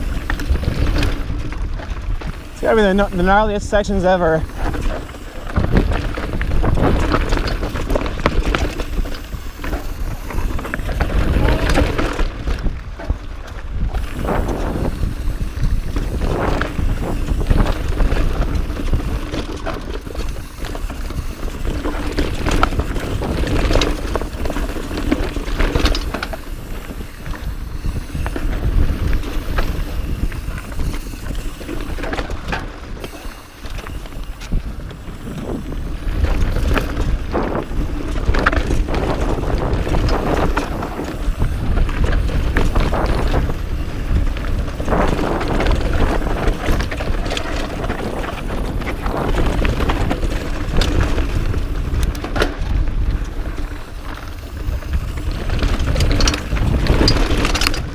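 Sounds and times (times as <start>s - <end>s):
bike knocking and rattling on rocks: 0.0s - 57.9s
bike tyres rolling over dirt: 0.0s - 57.9s
wind rumbling on microphone: 0.0s - 57.9s.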